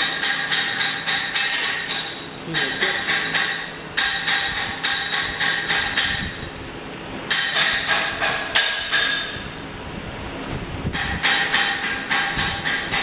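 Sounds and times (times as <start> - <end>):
hammer striking metal: 0.0 - 6.4, 7.3 - 9.4, 10.9 - 13.0.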